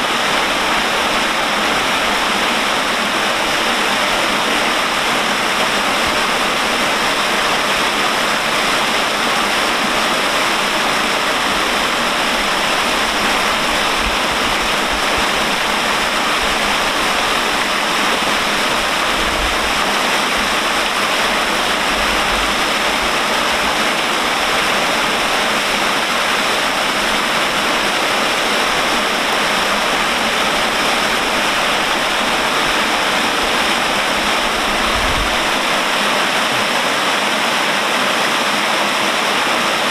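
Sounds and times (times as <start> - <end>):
water falling and splashing: 0.0 - 39.9.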